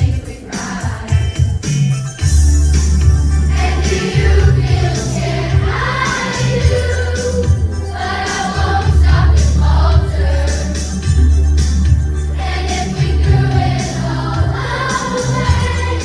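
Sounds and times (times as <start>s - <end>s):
children's choir singing pop song: 0.0s - 16.0s
instrumental accompaniment with bass: 0.6s - 16.0s.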